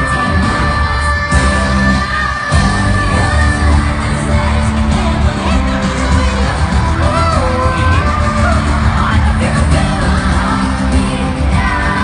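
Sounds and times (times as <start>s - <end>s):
crowd yelling: 0.0s - 12.0s
live pop music: 0.0s - 12.0s.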